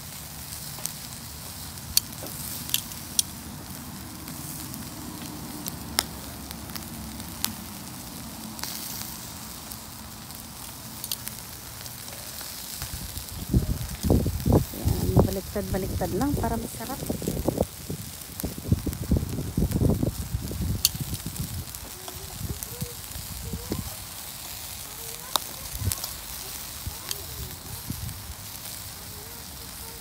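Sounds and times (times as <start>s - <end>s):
meat sizzling on grill: 0.0s - 30.0s
fat popping and crackling: 0.5s - 30.0s.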